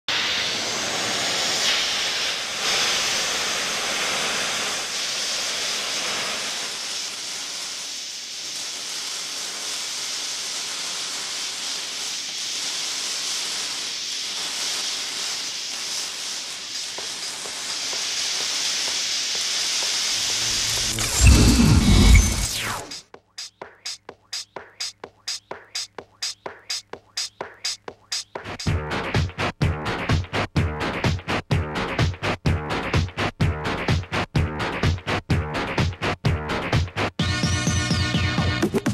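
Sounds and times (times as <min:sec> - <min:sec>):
sparks sizzling hiss: 0:00.1 - 0:35.9.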